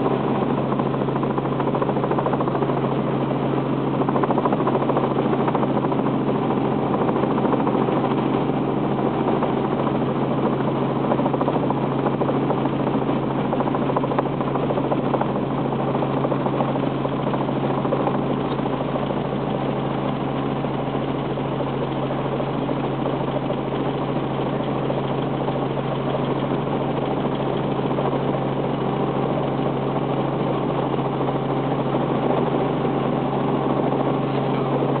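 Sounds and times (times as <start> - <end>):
helicopter engine and rotor: 0.0 - 35.0.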